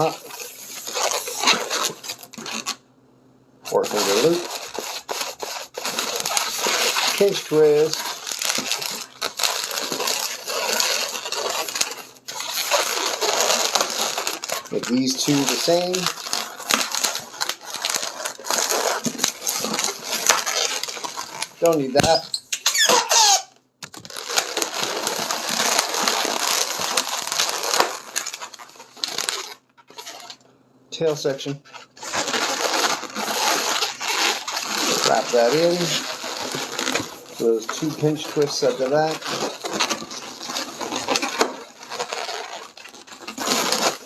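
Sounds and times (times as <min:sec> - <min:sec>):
balloons squeaking and rubbing: 0:00.0 - 0:02.8, 0:03.7 - 0:30.4, 0:31.0 - 0:44.0.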